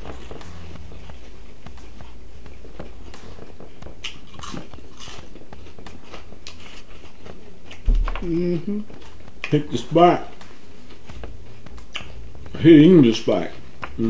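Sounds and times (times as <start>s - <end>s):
people chewing: 0.0s - 14.0s
steady low hum: 0.0s - 14.0s.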